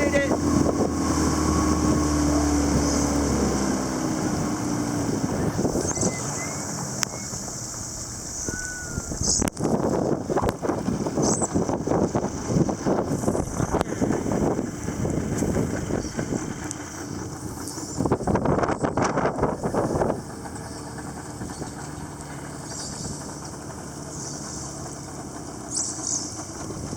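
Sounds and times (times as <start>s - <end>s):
motorboat engine: 0.0s - 26.9s
rushing of wind and water: 0.0s - 26.9s.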